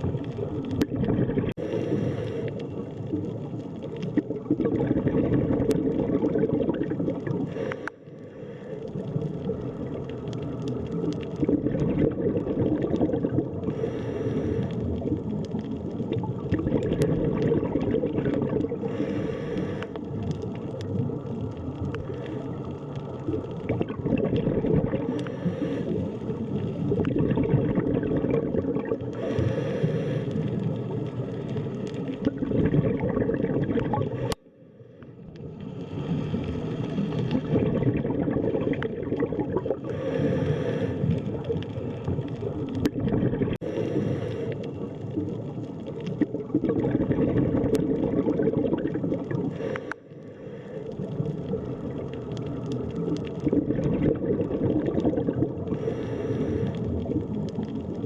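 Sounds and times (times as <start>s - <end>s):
bubbling: 0.0s - 58.0s
underwater water wash: 0.0s - 58.0s.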